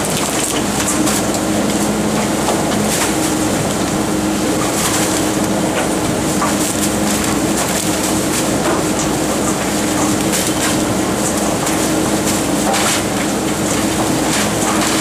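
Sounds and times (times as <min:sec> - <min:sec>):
garbage truck packer turning: 0:00.0 - 0:15.0
truck engine and hydraulics hum: 0:00.0 - 0:15.0.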